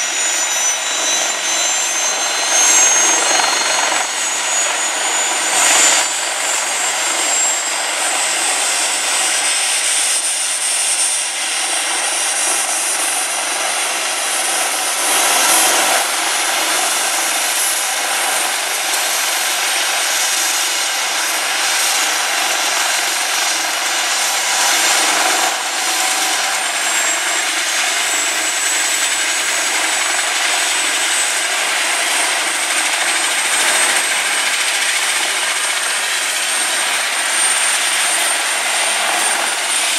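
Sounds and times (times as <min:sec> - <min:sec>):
rising turbine whine: 0:00.0 - 0:18.5, 0:21.8 - 0:39.9
helicopter engines and rotor: 0:00.0 - 0:39.9.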